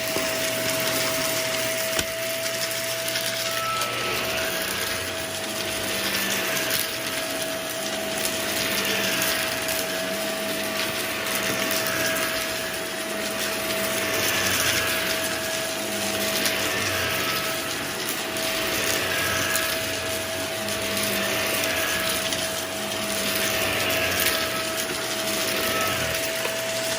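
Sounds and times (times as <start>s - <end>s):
vacuum cleaner whining: 0.0s - 26.9s.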